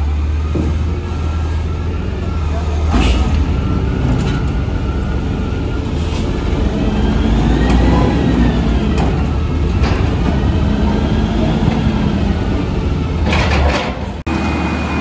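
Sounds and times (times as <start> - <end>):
garbage truck engine running: 0.0 - 15.0.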